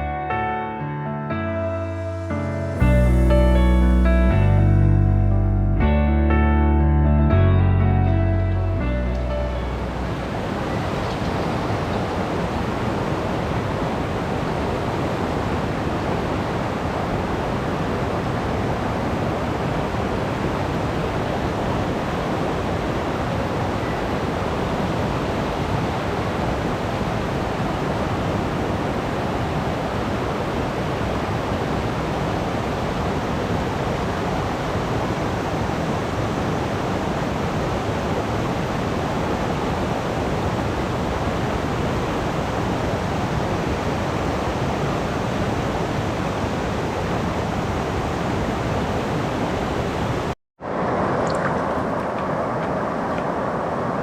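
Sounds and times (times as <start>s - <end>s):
stream rushing over rocks: 9.8s - 54.0s.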